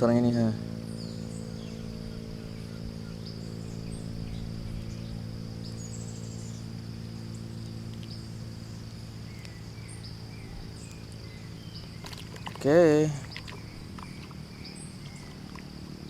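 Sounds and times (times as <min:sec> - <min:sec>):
insects buzzing: 0:00.0 - 0:16.0
motor droning hum: 0:00.0 - 0:16.0
bird chirps: 0:00.8 - 0:16.0.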